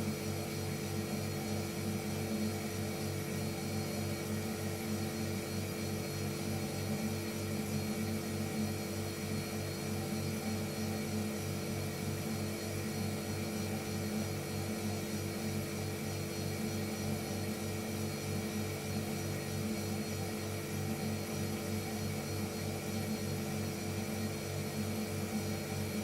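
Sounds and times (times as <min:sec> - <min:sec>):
refrigerator compressor humming: 0:00.0 - 0:26.0.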